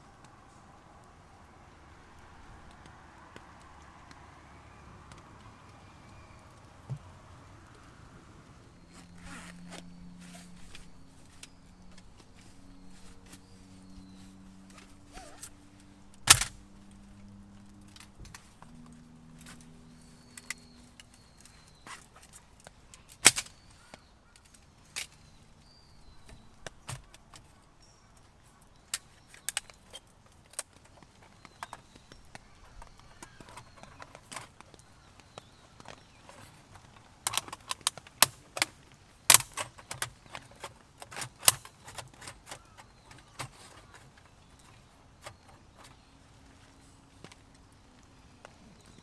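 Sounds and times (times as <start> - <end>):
faint steady background noise: 0.0 - 49.0.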